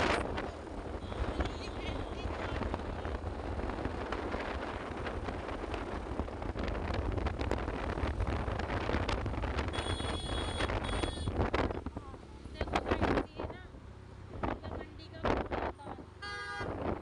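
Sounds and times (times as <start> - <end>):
low road and engine rumble: 0.0 - 17.0
wind buffeting microphone: 0.0 - 17.0.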